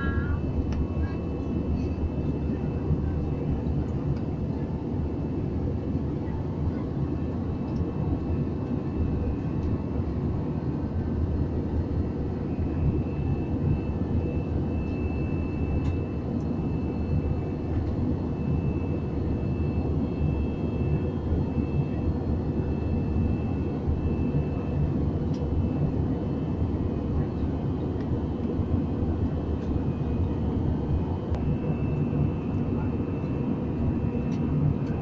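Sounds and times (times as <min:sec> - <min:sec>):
airliner engine and airflow rumble: 0:00.0 - 0:35.0
faint high whine: 0:00.0 - 0:35.0.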